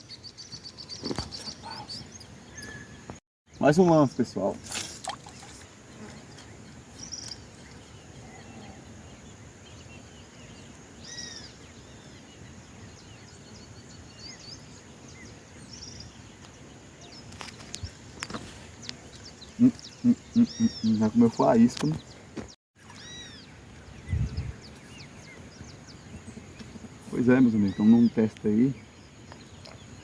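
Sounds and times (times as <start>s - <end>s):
birds chirping: 0.0s - 30.0s
outdoor background hiss: 0.0s - 30.0s.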